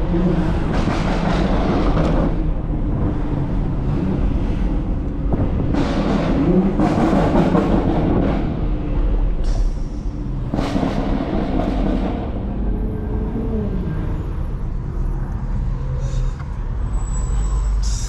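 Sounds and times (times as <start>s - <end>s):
car engine rumbling: 0.0s - 18.0s
road noise: 0.0s - 18.0s.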